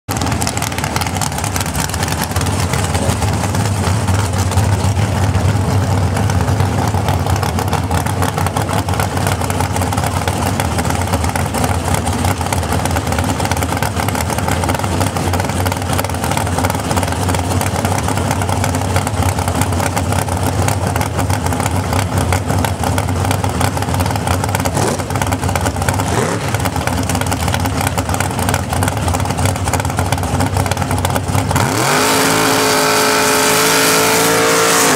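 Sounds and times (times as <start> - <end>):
dragster engine idling: 0.1 - 33.5.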